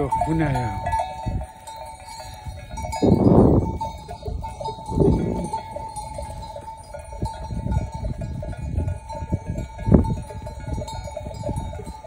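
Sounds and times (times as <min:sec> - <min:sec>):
sheep bells ringing: 0:00.0 - 0:12.0.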